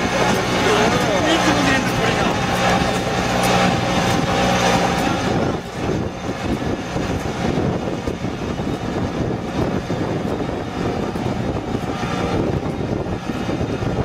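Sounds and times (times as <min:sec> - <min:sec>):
rice transplanter engine running: 0:00.0 - 0:14.0.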